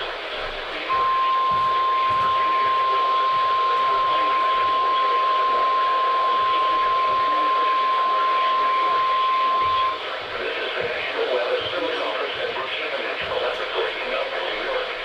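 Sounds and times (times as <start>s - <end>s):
radio hiss: 0.0s - 15.0s.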